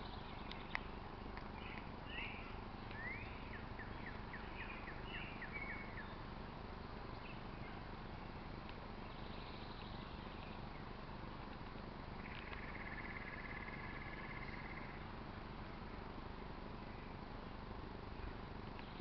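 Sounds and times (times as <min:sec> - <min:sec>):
low background rumble: 0:00.0 - 0:19.0
songbird chirping: 0:00.0 - 0:19.0.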